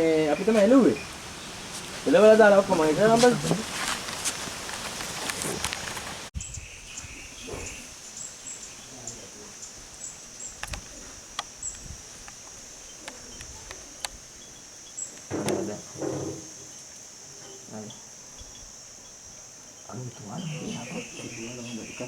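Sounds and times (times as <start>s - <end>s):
rain-like hiss: 0.0s - 22.0s.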